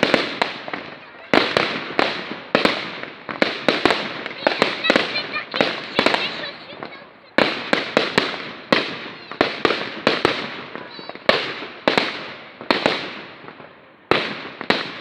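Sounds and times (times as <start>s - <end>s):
fireworks bursts and bangs: 0.0s - 15.0s
fireworks rumble and crackle: 0.0s - 15.0s.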